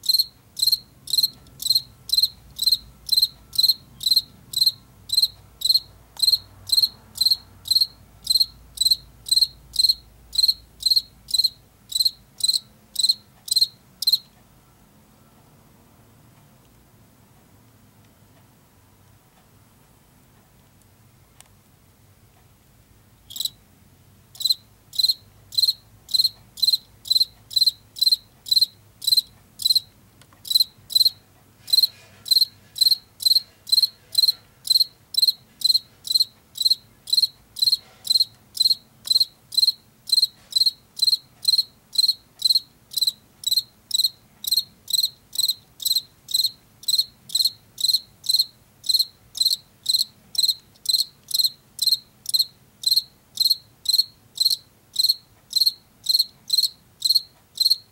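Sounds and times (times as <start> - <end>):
cricket chirping: 0.0 - 14.3, 23.3 - 23.6, 24.4 - 57.9.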